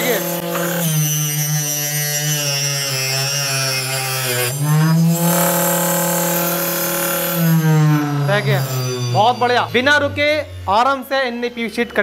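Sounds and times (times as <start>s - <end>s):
table saw cutting plastic sheet: 0.0s - 12.0s.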